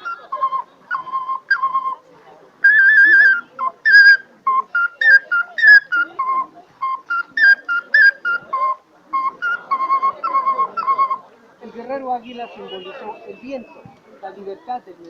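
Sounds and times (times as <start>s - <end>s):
flute melody: 0.0s - 11.3s, 12.2s - 14.0s.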